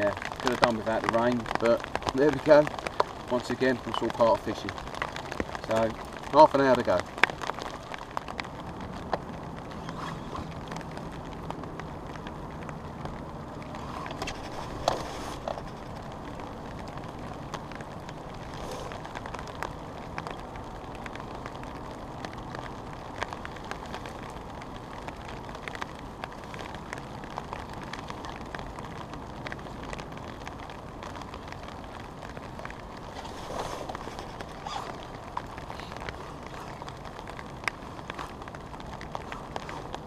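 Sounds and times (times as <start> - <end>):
rain pattering on umbrella: 0.0 - 40.0.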